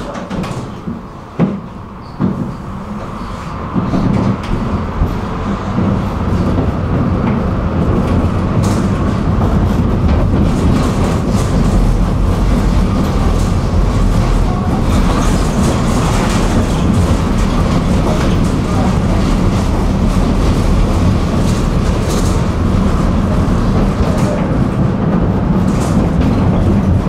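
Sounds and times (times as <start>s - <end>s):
rail clicks: 0.0s - 27.0s
tram wheels and motors rumbling: 0.0s - 27.0s.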